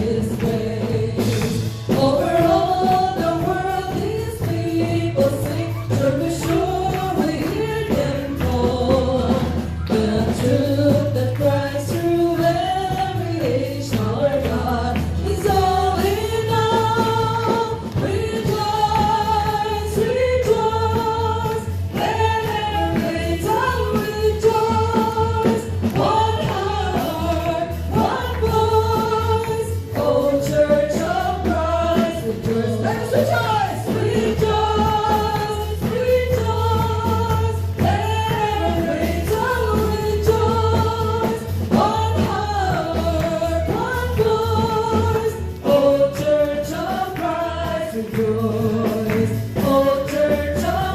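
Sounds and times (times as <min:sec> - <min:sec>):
beat and bass: 0:00.0 - 0:50.9
group singing worship music: 0:00.0 - 0:50.9.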